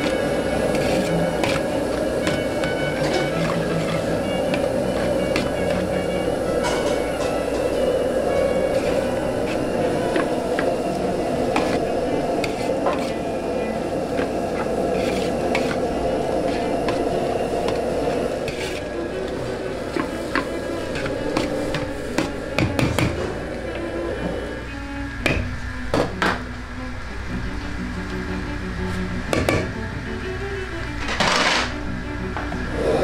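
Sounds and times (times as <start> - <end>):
steady rushing noise: 0.0 - 31.1.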